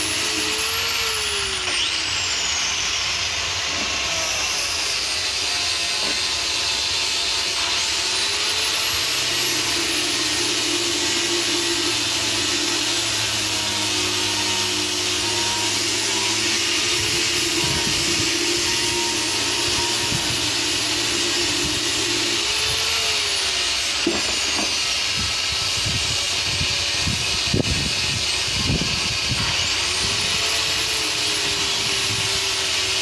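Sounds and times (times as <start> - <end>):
power tool motor whirring: 0.0 - 33.0.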